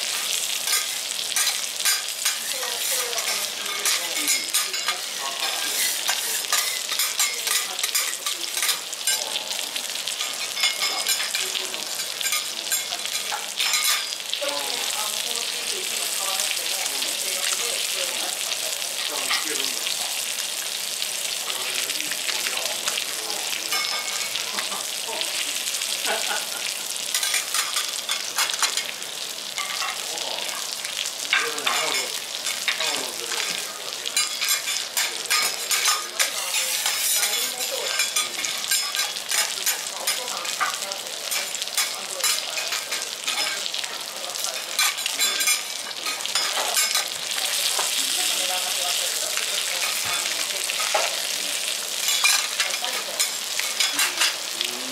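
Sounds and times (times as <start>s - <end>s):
fish fillet sizzling on griddle: 0.0s - 54.9s.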